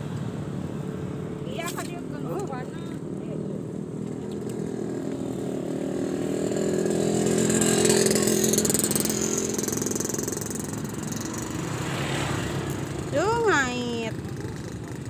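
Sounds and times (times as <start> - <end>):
small motorcycle engine passing: 0.8 - 15.0.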